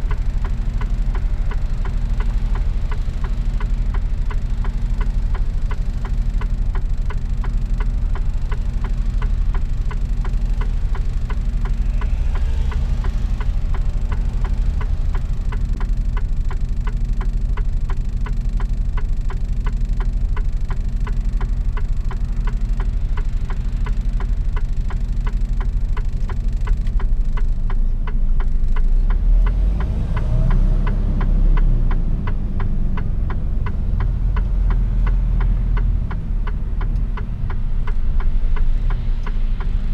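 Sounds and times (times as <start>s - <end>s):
fast ticking: 0.0s - 39.9s
truck diesel engine running: 0.0s - 39.9s.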